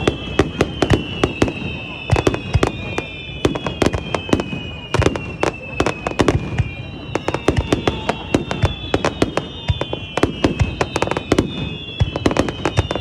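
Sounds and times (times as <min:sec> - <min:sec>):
fireworks cracks and bangs: 0:00.0 - 0:13.0
high steady whistling: 0:00.0 - 0:13.0.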